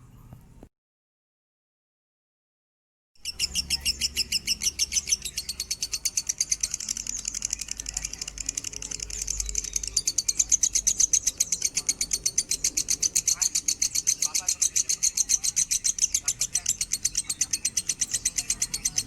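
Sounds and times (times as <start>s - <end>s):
lovebird shrill chirps: 3.2s - 19.0s.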